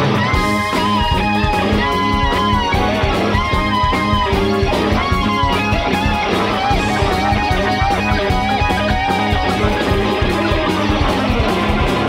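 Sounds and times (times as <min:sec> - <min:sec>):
electric guitar soloing: 0:00.0 - 0:12.0
funk band playing: 0:00.0 - 0:12.0.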